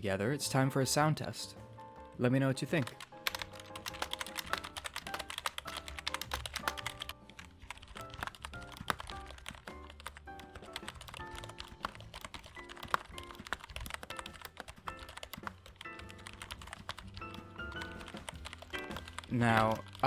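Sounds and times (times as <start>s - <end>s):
background music: 0.0s - 20.0s
keyboard typing: 2.0s - 20.0s.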